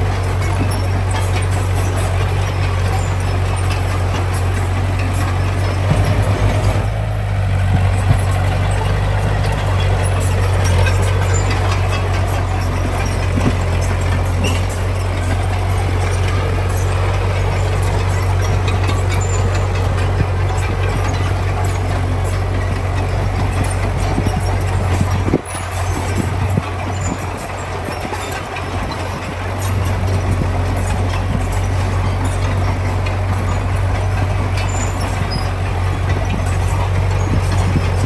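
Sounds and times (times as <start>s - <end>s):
diesel construction machinery running: 0.0s - 38.0s
metal clanks and rattles: 0.0s - 38.0s.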